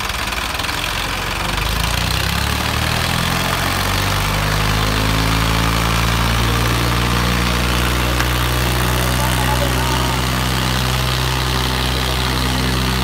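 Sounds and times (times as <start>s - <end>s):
tractor diesel engines revving: 0.0s - 13.0s.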